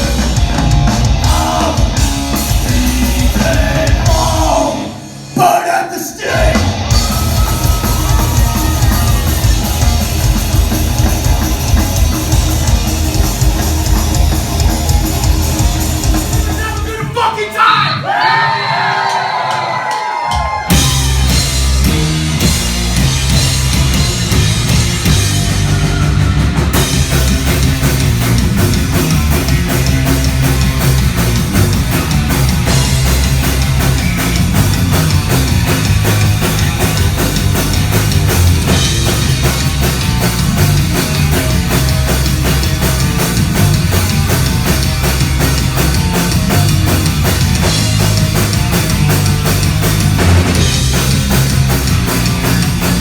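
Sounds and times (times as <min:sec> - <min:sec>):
fast drum beat: 0:00.0 - 0:04.9, 0:06.5 - 0:17.4, 0:20.3 - 0:53.0
live heavy metal band: 0:00.0 - 0:17.2, 0:17.8 - 0:53.0.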